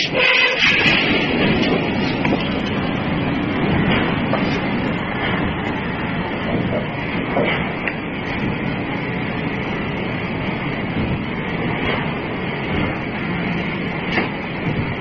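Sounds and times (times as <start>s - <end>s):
heavy machinery rumbling: 0.0s - 15.0s.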